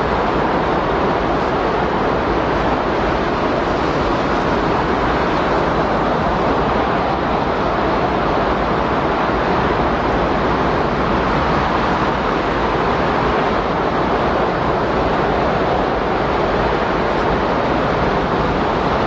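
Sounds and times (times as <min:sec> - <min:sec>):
rush of wind: 0:00.0 - 0:19.0.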